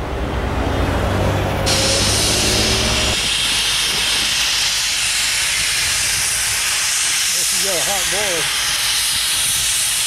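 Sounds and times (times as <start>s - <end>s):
passing train rumble: 0.0s - 10.0s
steam hissing: 1.6s - 10.0s.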